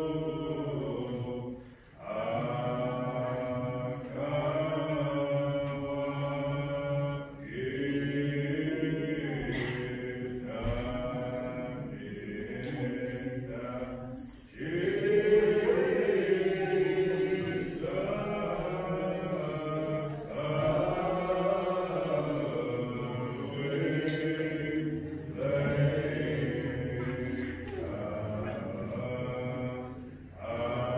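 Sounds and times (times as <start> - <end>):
hymn sung in long notes: 0.0 - 30.9.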